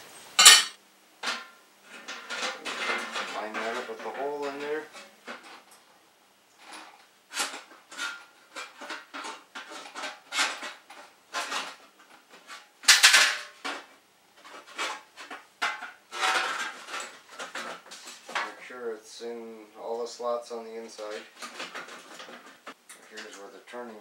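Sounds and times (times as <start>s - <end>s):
metal clicks and scrapes on pipe: 0.4s - 5.8s, 6.5s - 18.7s, 20.9s - 24.0s.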